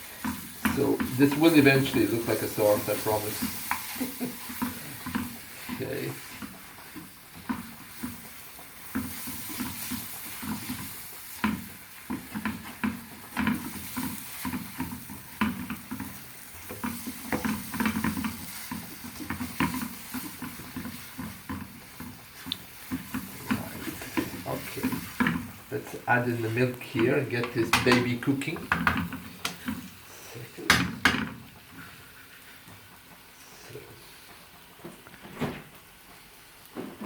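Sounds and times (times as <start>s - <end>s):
utensil scraping saucepan: 0.0s - 32.4s
light sizzle from pan: 0.0s - 37.0s.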